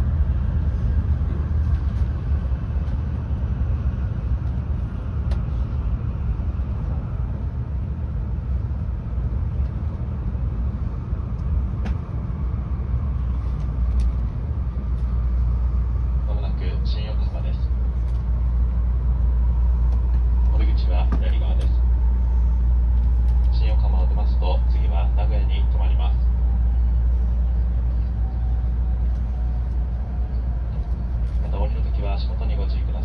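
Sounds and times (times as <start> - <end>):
train running rumble: 0.0 - 33.0.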